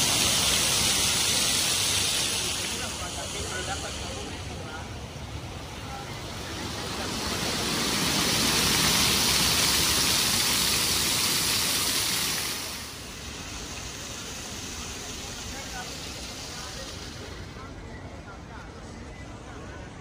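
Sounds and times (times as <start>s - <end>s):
fountain water splashing: 0.0s - 17.8s.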